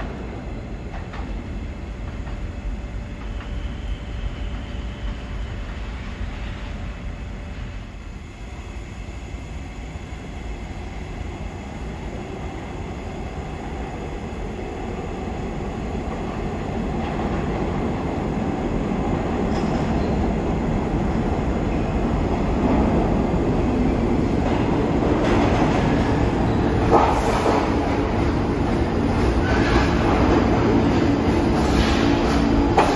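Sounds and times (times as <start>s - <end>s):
subway train rumbling on track: 0.0s - 32.9s.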